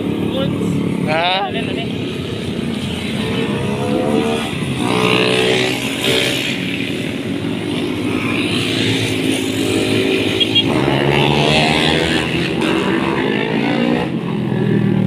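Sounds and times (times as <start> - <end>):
small motorcycles revving past: 0.1 - 15.0.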